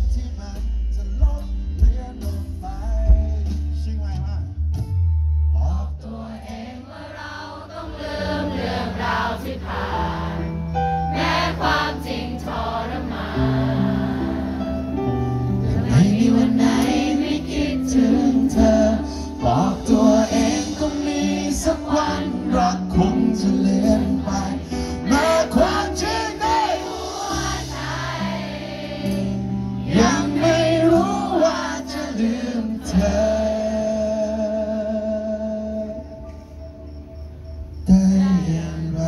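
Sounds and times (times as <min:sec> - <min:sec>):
band playing slow pop song: 0:00.0 - 0:39.0.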